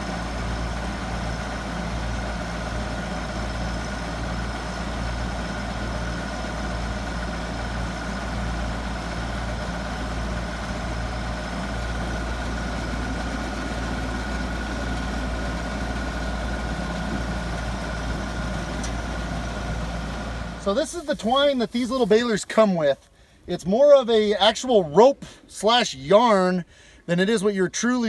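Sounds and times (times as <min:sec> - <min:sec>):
tractor engine running: 0:00.0 - 0:25.8.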